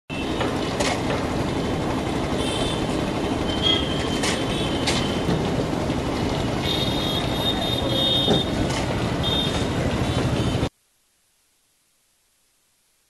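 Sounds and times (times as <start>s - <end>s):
motorbikes and cars rumbling: 0.1s - 10.7s.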